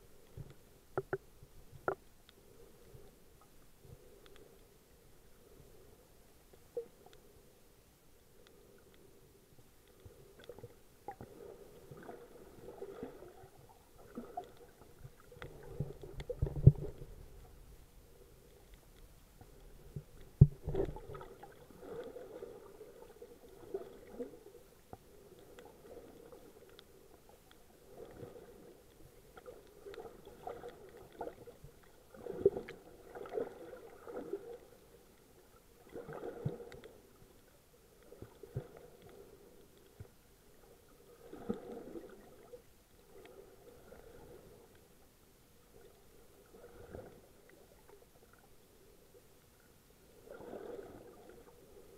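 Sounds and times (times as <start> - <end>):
underwater gurgling and sloshing: 0.0 - 51.9.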